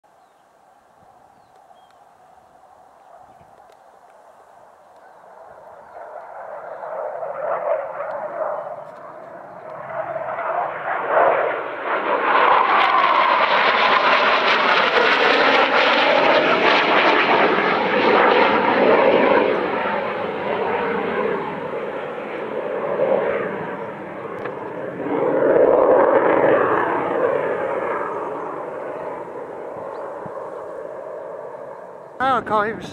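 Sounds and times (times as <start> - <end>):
jet engines roaring overhead: 4.9 - 32.9.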